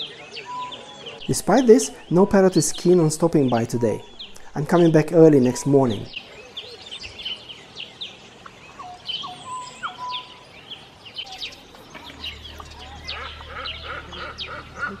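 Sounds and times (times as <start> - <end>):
whistled bird notes: 0.0 - 4.4, 5.4 - 15.0
birds chirping: 0.0 - 15.0.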